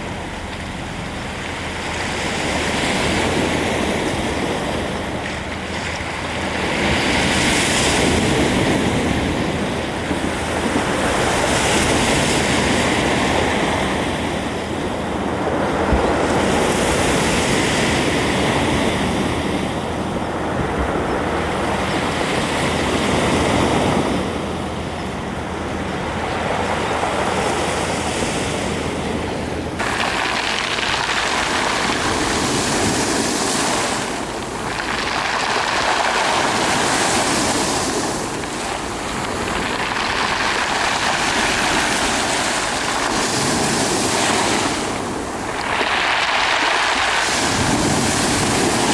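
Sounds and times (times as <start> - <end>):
sea waves breaking on shore: 0.0 - 48.9.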